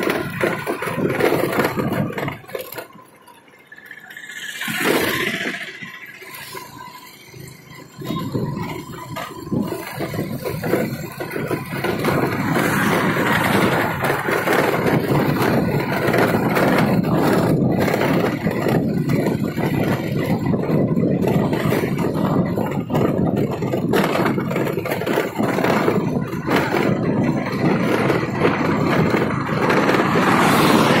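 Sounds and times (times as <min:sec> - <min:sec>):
motorbike engine cruising: 0:00.0 - 0:31.0.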